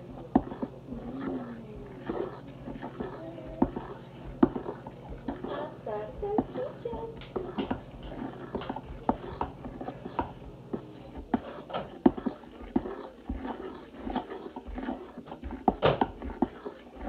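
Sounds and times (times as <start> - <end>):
faint low hum: 0.0 - 17.0
utensil scraping plastic bowl: 0.0 - 17.0.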